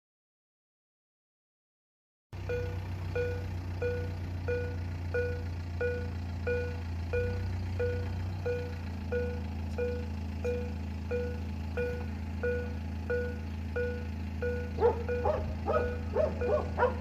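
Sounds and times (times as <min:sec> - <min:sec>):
level crossing warning bell: 0:02.4 - 0:17.0
low engine hum: 0:02.4 - 0:17.0.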